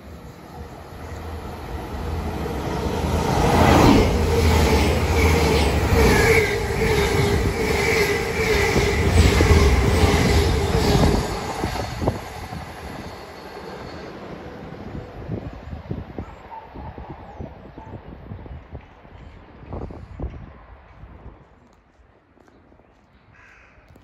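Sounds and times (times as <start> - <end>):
train passing at speed: 0.0 - 21.4.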